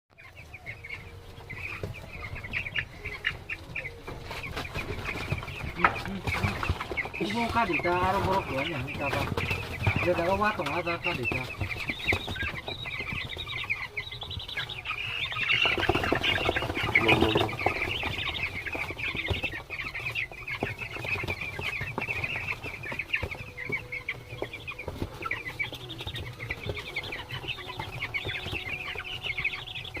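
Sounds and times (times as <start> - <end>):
chicks peeping: 0.1 - 30.0.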